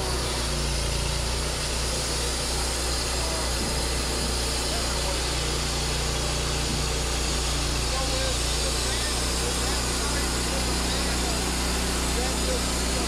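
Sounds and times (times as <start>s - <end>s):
sawmill engine droning: 0.0s - 13.0s.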